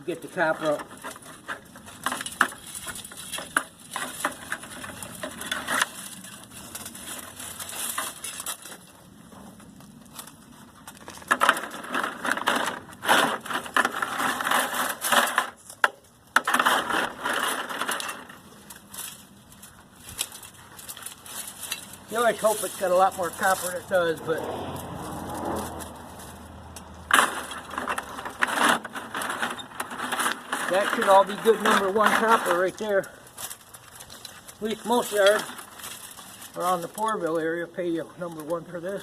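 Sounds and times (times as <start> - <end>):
metal scraping and clinking: 0.0 - 39.0.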